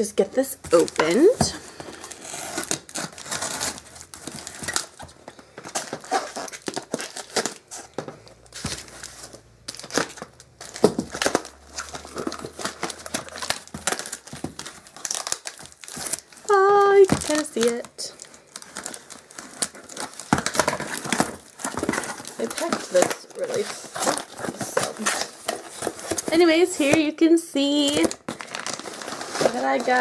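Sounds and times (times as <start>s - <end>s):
cardboard and packing crinkling: 0.0s - 30.0s
packing tape tearing: 0.6s - 27.1s, 27.7s - 30.0s.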